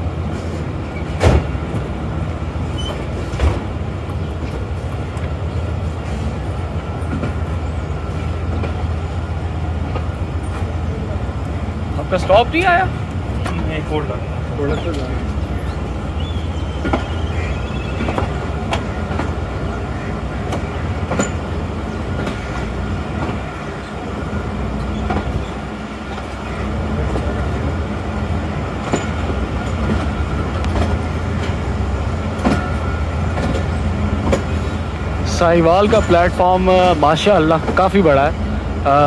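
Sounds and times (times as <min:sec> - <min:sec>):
train rumble: 0:00.0 - 0:39.0
wheels clacking over rail joints: 0:00.3 - 0:39.0.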